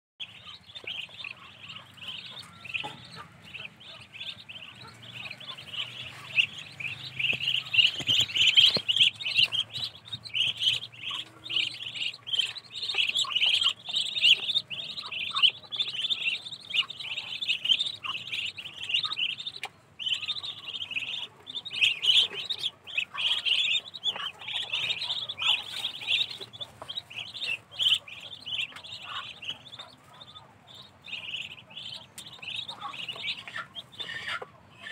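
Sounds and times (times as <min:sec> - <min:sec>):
ducklings peeping: 0:00.2 - 0:34.9.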